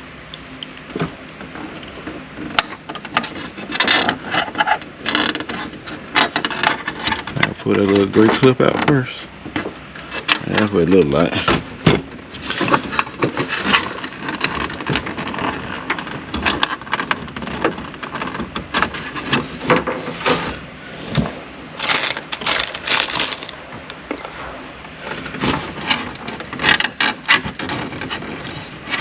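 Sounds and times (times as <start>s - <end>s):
crackly rustling: 0.0s - 29.0s.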